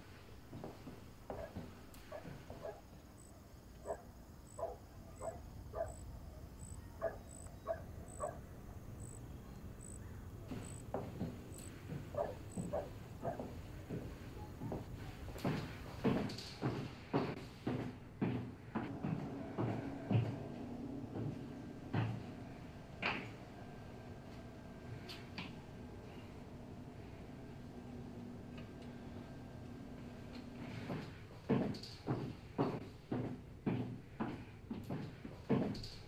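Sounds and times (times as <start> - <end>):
footsteps on stairs and floor: 0.0 - 4.6, 9.8 - 36.0.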